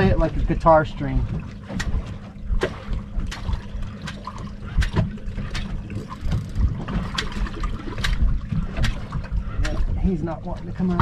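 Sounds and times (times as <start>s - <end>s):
steady low hum: 0.0s - 11.0s
water slapping hull: 0.0s - 11.0s.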